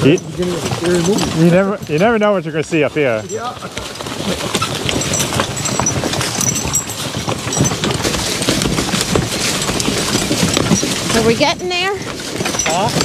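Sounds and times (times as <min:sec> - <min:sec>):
cart wheels rattling on leaves: 0:00.0 - 0:13.0.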